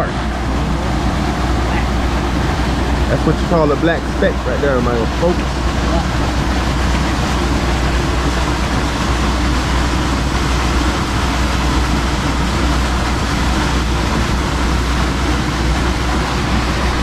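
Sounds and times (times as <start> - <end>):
low machinery hum: 0.0 - 17.0
water jet spraying and splashing: 0.0 - 17.0.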